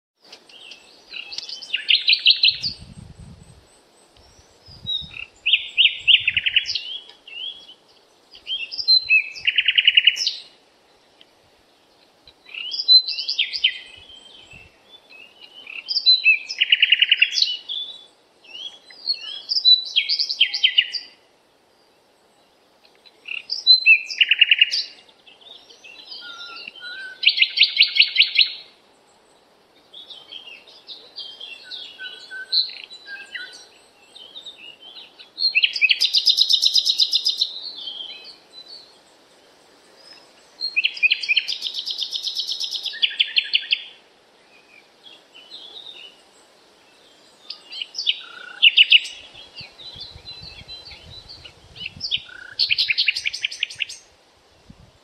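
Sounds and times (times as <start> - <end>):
songbird chirping and trilling: 0.2 - 54.2.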